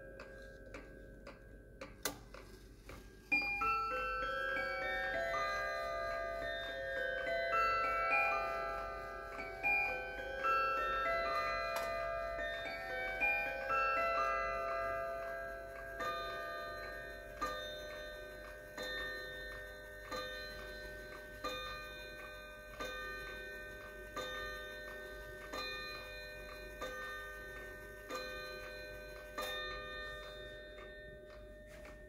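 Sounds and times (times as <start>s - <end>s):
clock ticking: 0.0s - 32.0s
wall clock striking on chime rods: 0.0s - 32.0s.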